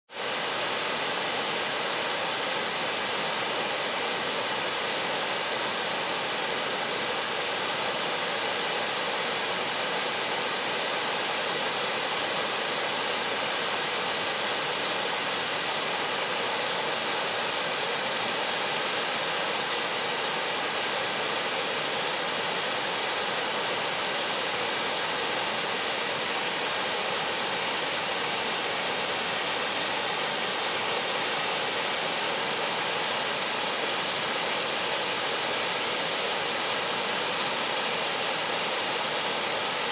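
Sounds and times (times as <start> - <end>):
waterfall rushing: 0.2 - 39.9.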